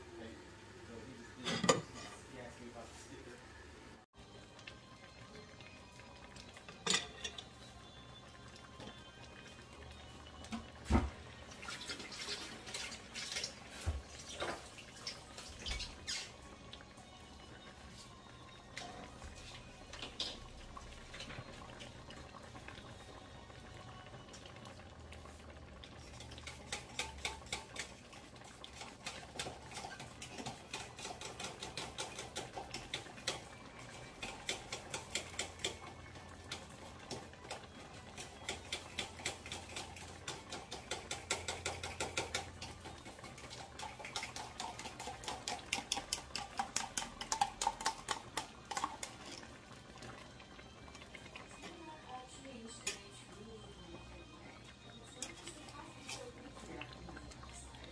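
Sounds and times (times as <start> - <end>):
stew bubbling in a wok: 4.2 - 57.9.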